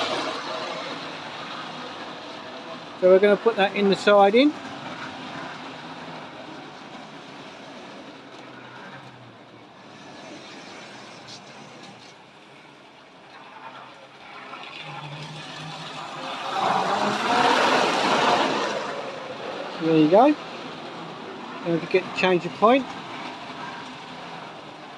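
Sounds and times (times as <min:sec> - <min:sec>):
model train wheels on rails: 0:00.0 - 0:24.9.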